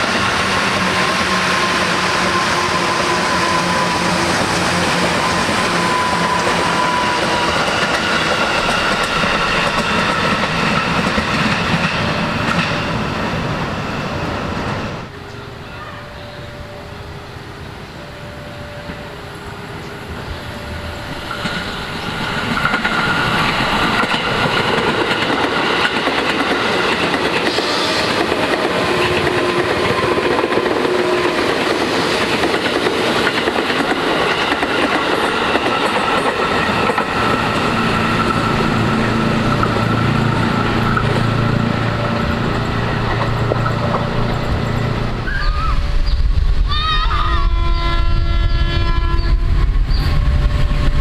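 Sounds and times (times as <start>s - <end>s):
train rumbling on rails: 0.0s - 51.0s.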